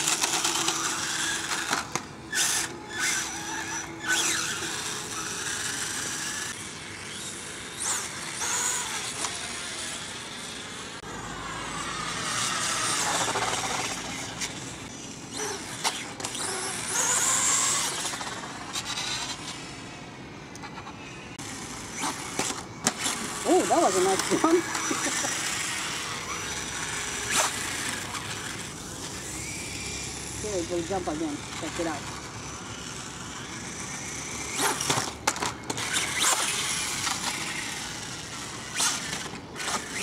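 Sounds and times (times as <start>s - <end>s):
electric motor whining: 0.0s - 20.7s, 21.4s - 40.0s.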